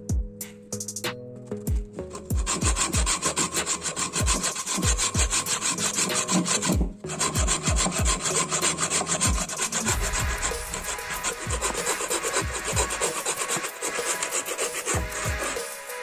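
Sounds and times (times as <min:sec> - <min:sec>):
hand saw cutting wood: 0:01.6 - 0:16.0.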